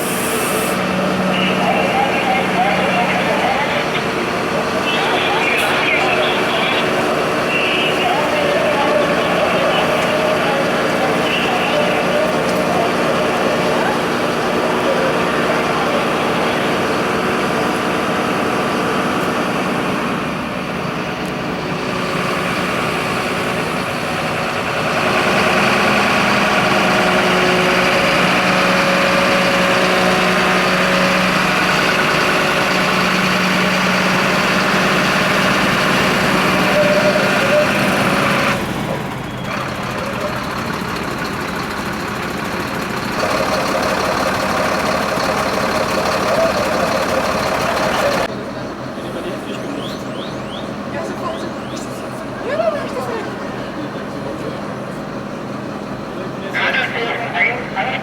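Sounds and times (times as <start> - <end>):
fire engine motors running: 0.0 - 58.0.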